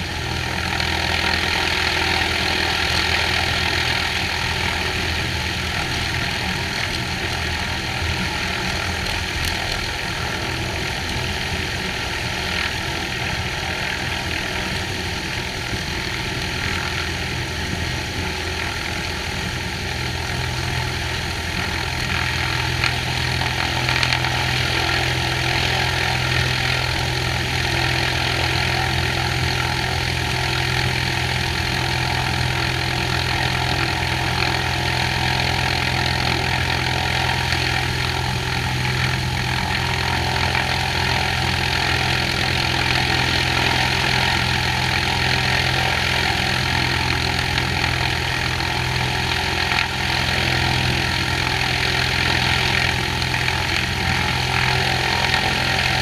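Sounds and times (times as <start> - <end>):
aircraft engine and propeller running: 0.0 - 56.0.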